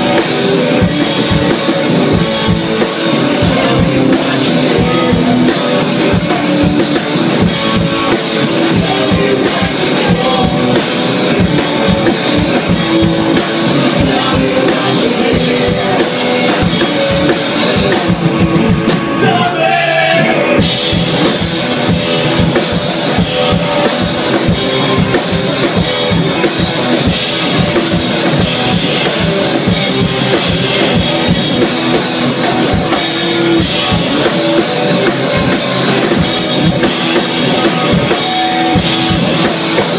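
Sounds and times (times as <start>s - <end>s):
man singing: 0.0s - 20.7s, 22.8s - 39.9s
live rock band playing: 0.0s - 39.9s.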